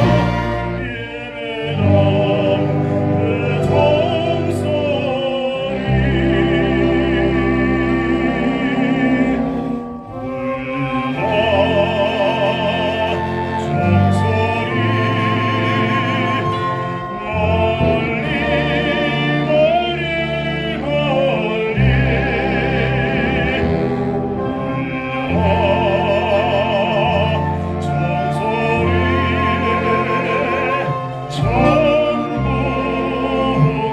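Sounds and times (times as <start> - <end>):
baritone singing operatically: 0.0 - 33.9
instrumental accompaniment: 0.0 - 33.9.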